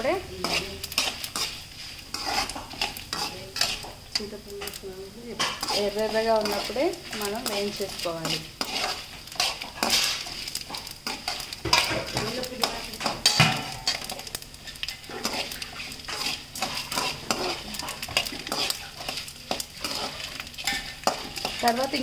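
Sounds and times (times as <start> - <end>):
light sizzle: 0.0 - 22.0
metal spatula scraping a pan: 0.0 - 22.0.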